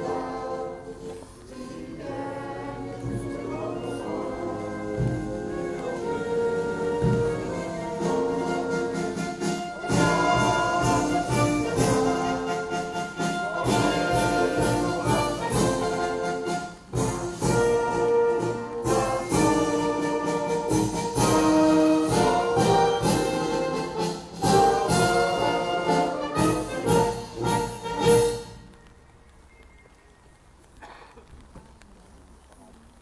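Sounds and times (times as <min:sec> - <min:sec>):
drum strokes: 0:00.0 - 0:28.7
orchestral music over loudspeaker: 0:00.0 - 0:28.7.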